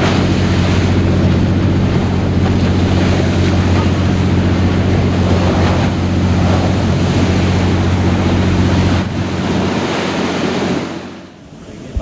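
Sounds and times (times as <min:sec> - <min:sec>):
boat engine low drone: 0:00.0 - 0:12.0
waves washing: 0:00.0 - 0:12.0
wind buffeting microphone: 0:00.0 - 0:12.0.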